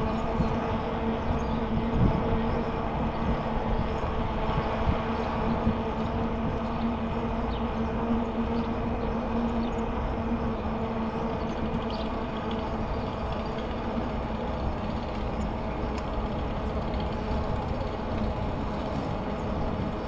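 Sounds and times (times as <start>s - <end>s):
bicycle rolling and rumbling: 0.0s - 20.0s
vehicle engine hum: 0.0s - 20.0s.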